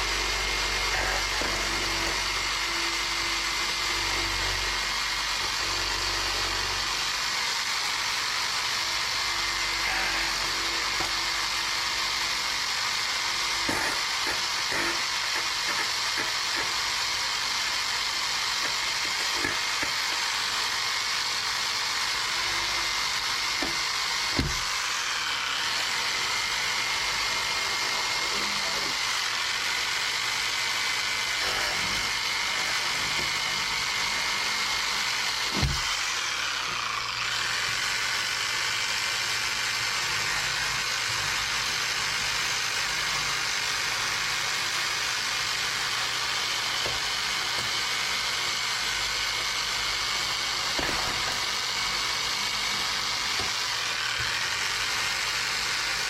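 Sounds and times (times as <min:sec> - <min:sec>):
mechanical engine-like running: 0:06.8 - 0:56.0.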